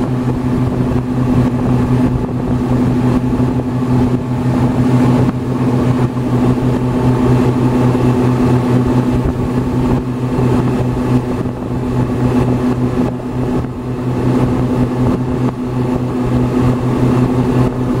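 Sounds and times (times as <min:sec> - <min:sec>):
ferry engine droning: 0:00.0 - 0:18.0
rushing water and air: 0:00.0 - 0:18.0.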